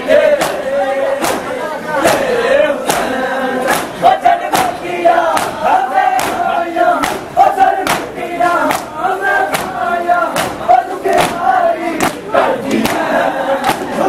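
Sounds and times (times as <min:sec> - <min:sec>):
crowd of men chanting: 0:00.0 - 0:14.0
hands slapping bare chests: 0:00.4 - 0:00.6, 0:01.2 - 0:13.9.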